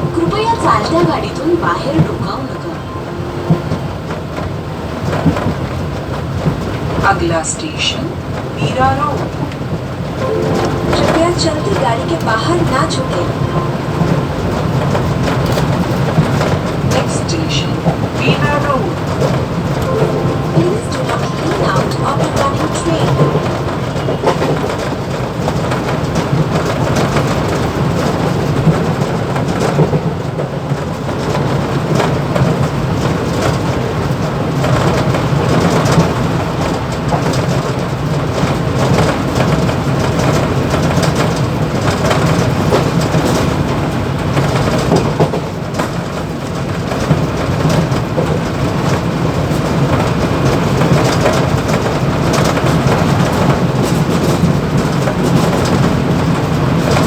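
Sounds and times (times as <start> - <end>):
electric train rumbling: 0.0 - 57.0.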